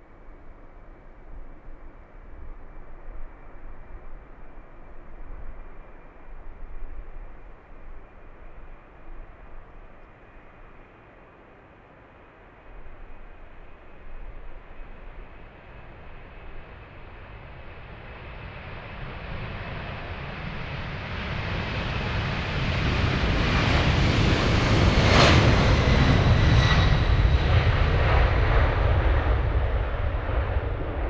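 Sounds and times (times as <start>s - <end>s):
jet engines rumbling with whine: 0.0s - 31.0s.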